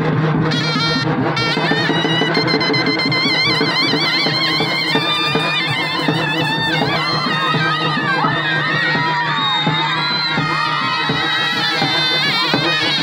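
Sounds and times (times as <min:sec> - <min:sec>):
reed wind instrument melody: 0:00.0 - 0:13.0
steady drumming: 0:00.0 - 0:13.0.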